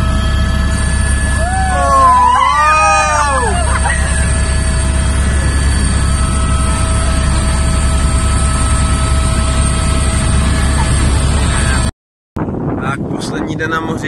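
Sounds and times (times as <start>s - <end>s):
whining tones: 0.0s - 11.9s
helicopter engine and rotor drone: 0.0s - 14.0s.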